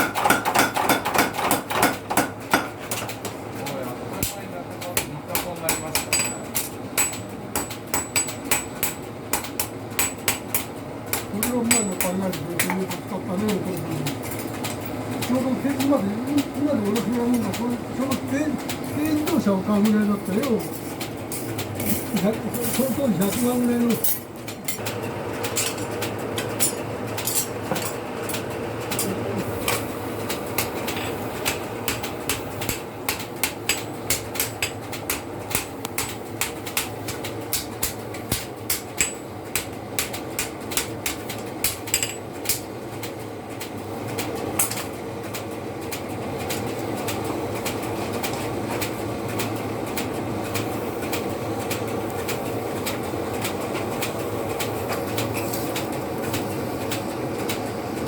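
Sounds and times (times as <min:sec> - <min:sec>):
steady mechanical drone: 0:01.5 - 0:58.0.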